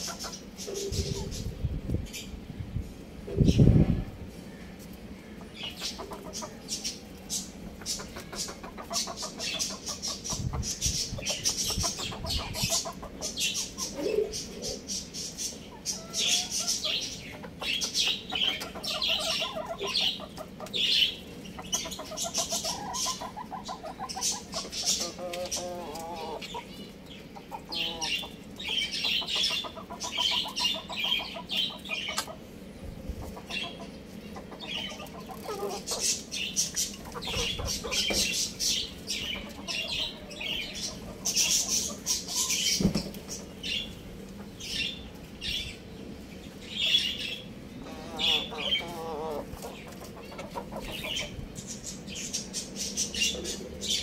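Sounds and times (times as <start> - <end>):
roosters clucking and calling: 0.0 - 54.0.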